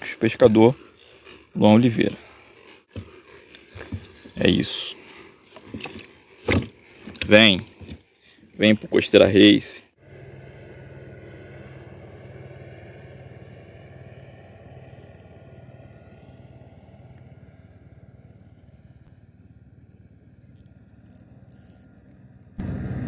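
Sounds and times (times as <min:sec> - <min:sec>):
motorboat engine drone: 0:00.0 - 0:08.1, 0:09.9 - 0:23.0.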